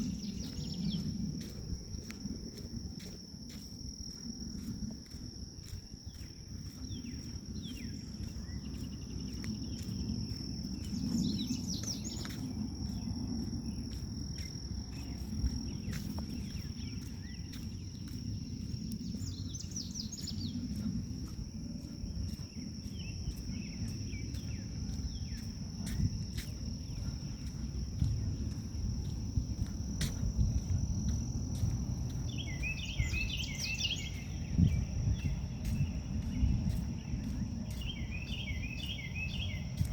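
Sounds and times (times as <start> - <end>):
crickets trilling: 0.0 - 39.9
wind rumble on microphone: 0.0 - 39.9.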